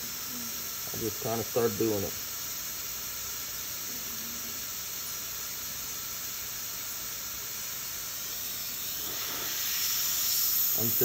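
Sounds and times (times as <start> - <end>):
hot air gun hissing: 0.0 - 11.0.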